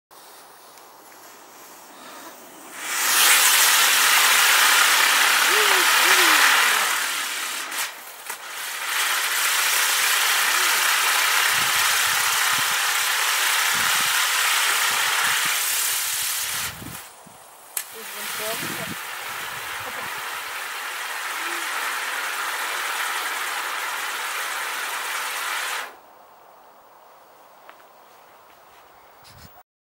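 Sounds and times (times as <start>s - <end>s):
firework wheel hissing: 0.2s - 26.0s
sharp firework cracks: 1.1s - 26.0s.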